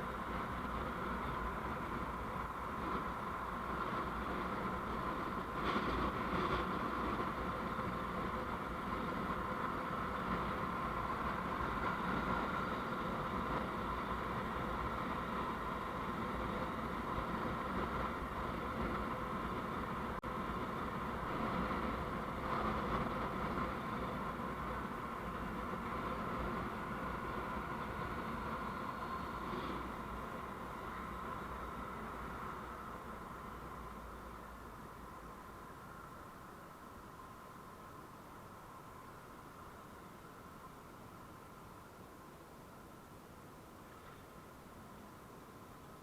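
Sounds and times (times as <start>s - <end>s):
vehicle engine and road noise: 0.0s - 46.0s.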